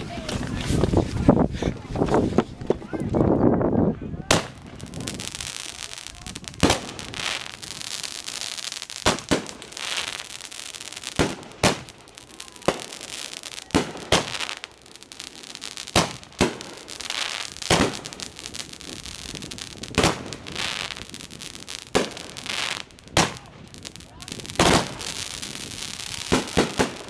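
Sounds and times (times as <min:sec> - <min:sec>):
fireworks bangs: 0:04.2 - 0:27.0.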